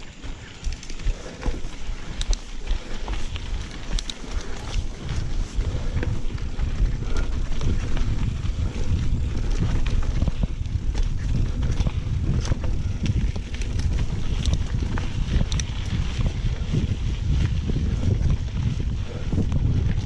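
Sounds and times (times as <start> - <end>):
bike rattling on dirt trail: 0.0 - 20.0
wind buffeting microphone: 0.0 - 20.0.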